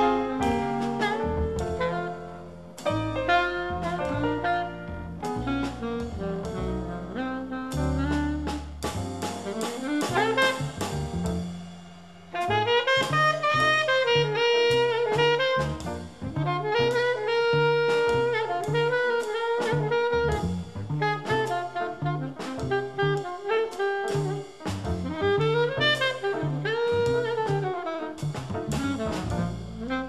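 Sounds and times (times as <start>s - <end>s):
saxophone line: 0.0s - 8.7s, 9.4s - 11.2s, 12.4s - 30.0s
drums: 0.0s - 30.0s
walking double bass: 0.0s - 30.0s.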